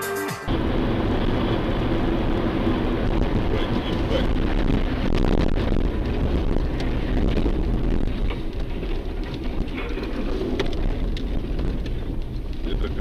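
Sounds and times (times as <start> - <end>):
car road rumble: 0.5 - 13.0.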